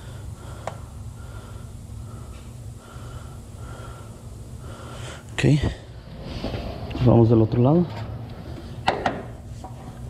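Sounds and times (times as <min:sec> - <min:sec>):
workshop hum: 0:00.0 - 0:10.0.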